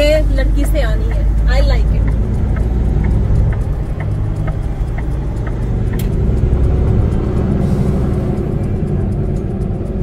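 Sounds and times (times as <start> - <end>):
diesel truck engine running: 0.0 - 10.0
light repeating tick: 0.0 - 10.0.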